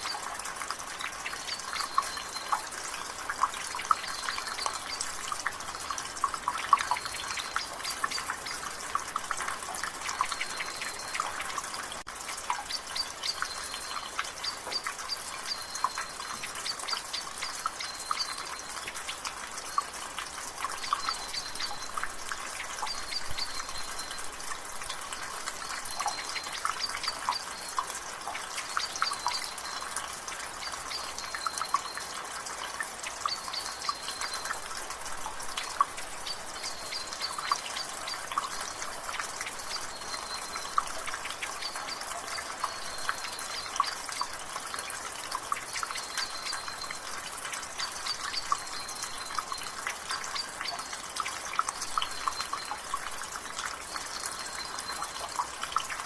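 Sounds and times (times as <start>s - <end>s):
water dripping from gutter: 0.0s - 56.0s.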